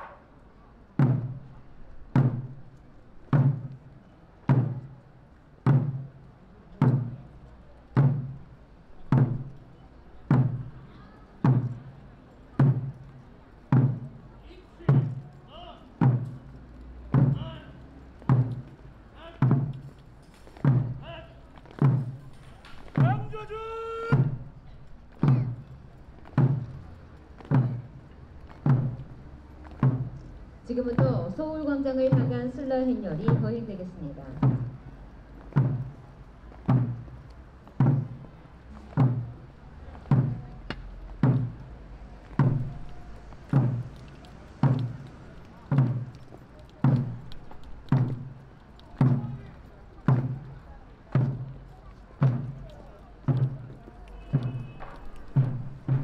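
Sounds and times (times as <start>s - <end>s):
large drum beats: 1.0s - 5.0s, 5.6s - 7.3s, 7.9s - 10.8s, 11.4s - 11.9s, 12.5s - 14.2s, 14.8s - 15.4s, 16.0s - 56.0s.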